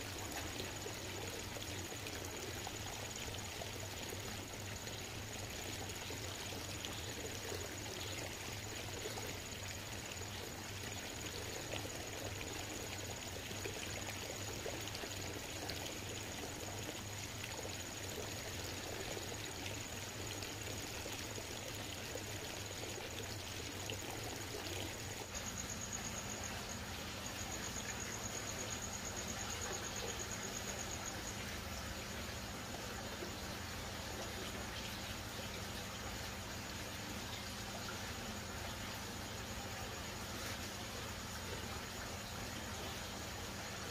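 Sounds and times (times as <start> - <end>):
high pulsing insect chirp: 0.0 - 43.9
water trickling and splashing: 0.0 - 43.9.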